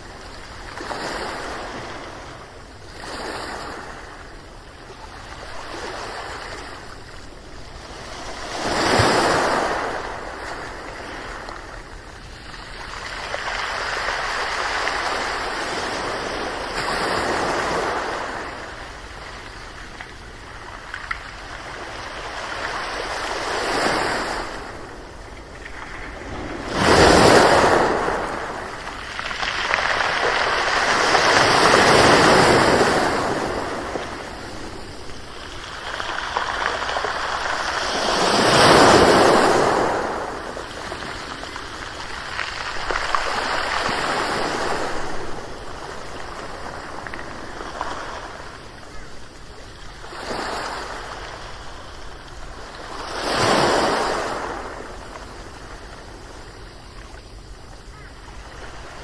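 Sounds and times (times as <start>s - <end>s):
ocean waves breaking: 0.0s - 57.8s.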